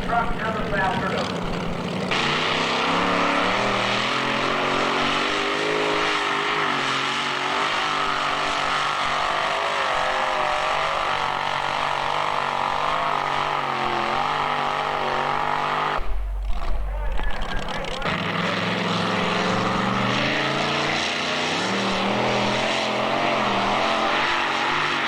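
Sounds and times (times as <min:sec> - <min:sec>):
pulling vehicle engine running loudly: 0:00.0 - 0:25.0.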